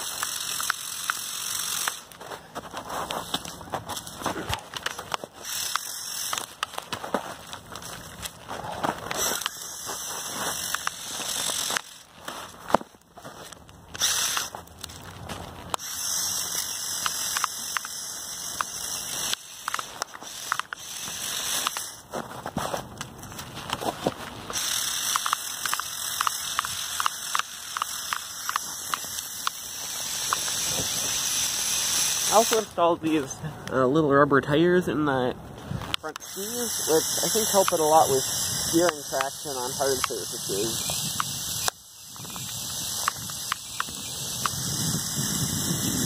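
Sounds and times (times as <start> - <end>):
toy motors whining: 0.0 - 33.4, 35.8 - 46.0.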